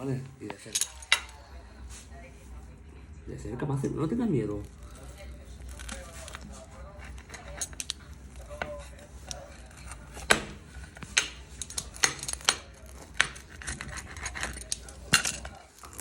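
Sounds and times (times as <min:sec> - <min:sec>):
utensils clinking against dishes: 0:00.0 - 0:01.6, 0:04.6 - 0:16.0
low steady hum: 0:00.0 - 0:16.0.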